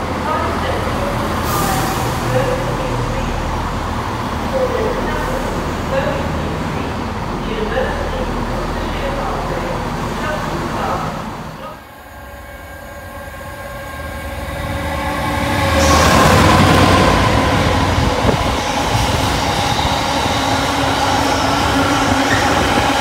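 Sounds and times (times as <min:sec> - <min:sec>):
train passing close by: 0:00.0 - 0:23.0.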